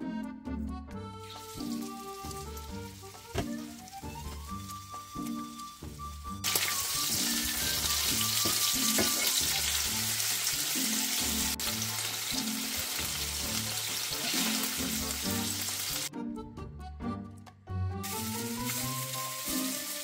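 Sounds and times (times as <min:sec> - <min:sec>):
meat sizzling in frying pan: 0:01.2 - 0:16.1, 0:18.0 - 0:20.0.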